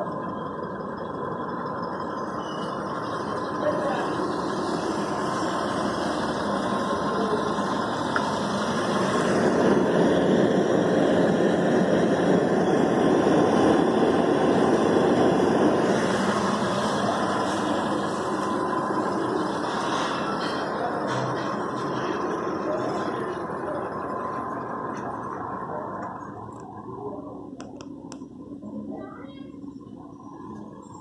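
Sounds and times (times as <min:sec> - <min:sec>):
car engine idling: 0:00.0 - 0:31.0
gas generator working: 0:00.0 - 0:31.0.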